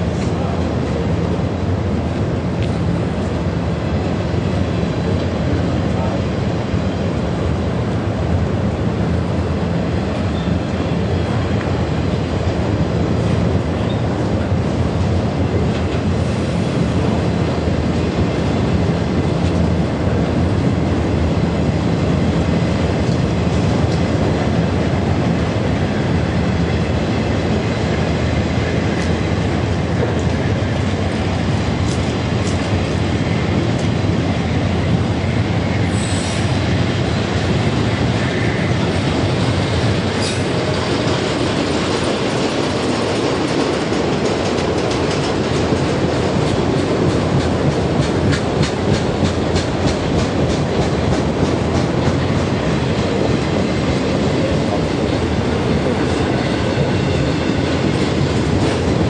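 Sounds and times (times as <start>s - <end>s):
train wheels clattering on track: 0.0s - 59.0s.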